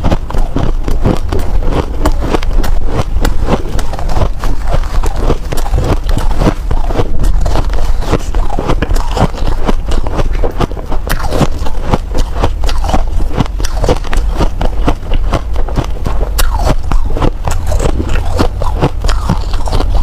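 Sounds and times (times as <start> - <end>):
ice being chewed crunching: 0.0 - 20.0
low hum: 0.0 - 20.0.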